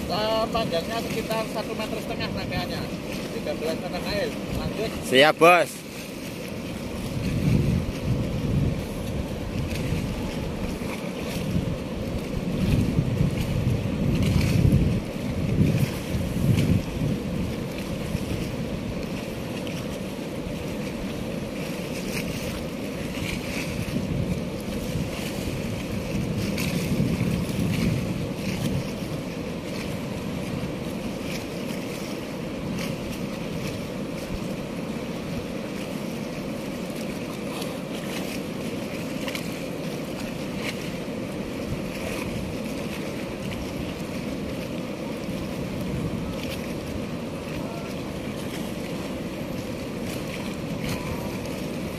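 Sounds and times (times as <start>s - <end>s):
turbulent river water rushing: 0.0s - 51.9s
wind buffeting microphone: 0.0s - 51.9s.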